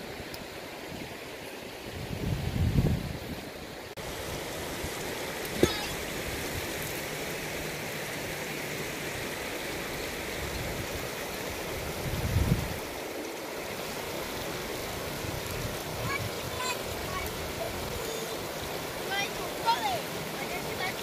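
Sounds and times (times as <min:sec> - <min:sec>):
river rushing over stones: 0:00.0 - 0:21.0.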